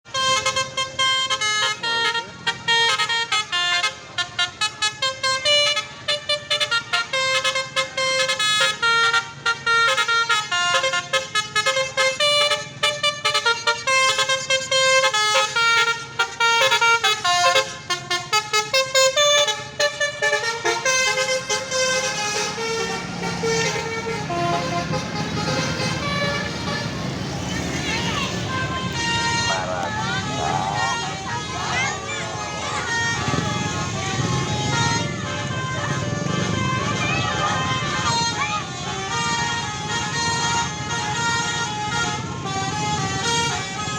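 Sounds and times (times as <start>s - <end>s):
low engine rumble: 0.0s - 43.9s
multi-tone air horn melody: 0.1s - 43.9s.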